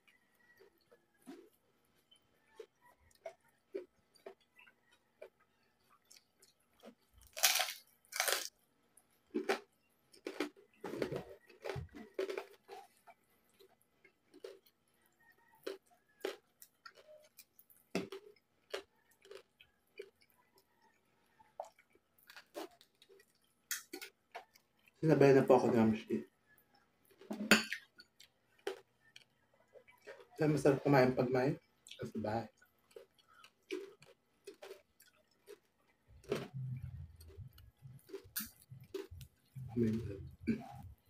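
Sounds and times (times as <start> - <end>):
person chewing crunchy food: 0.0 - 41.0.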